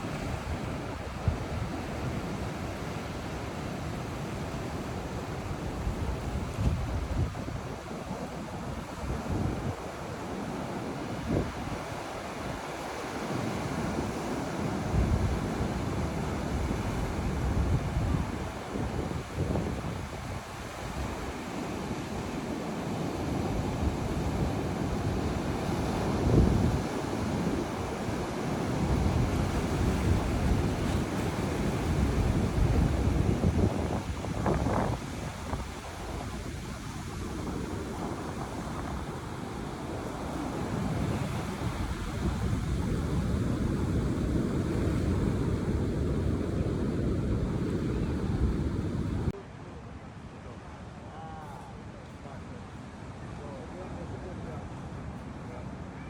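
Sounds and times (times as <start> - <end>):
wind on microphone: 0.0 - 3.6, 4.6 - 49.4
surf washing on beach: 0.0 - 56.0.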